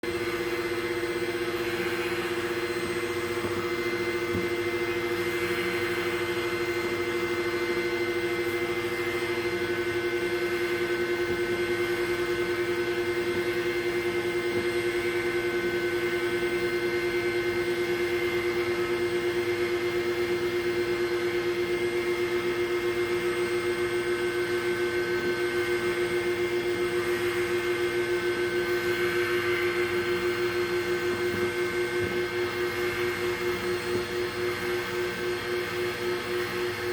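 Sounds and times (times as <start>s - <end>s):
vacuum motor humming: 0.0s - 36.9s.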